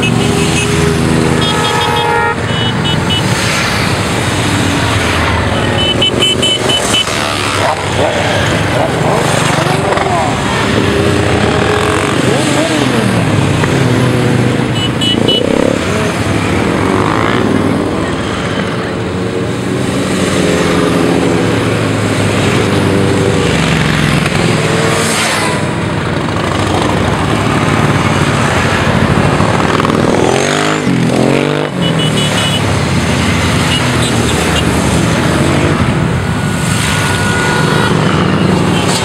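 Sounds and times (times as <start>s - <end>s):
motorcycle engine revving: 0.0s - 39.0s
motorcycles riding past: 0.0s - 39.0s.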